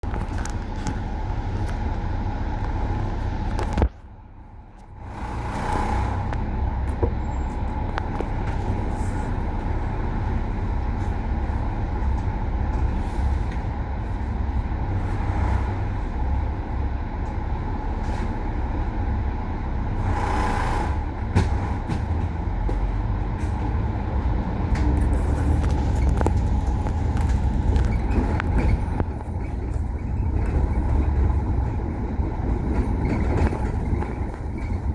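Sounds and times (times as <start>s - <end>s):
bus engine drone: 0.0s - 34.9s.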